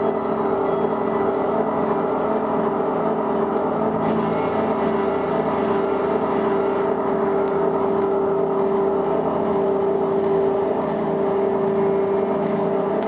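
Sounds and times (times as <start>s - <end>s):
steady drone with held tone: 0.0s - 13.0s.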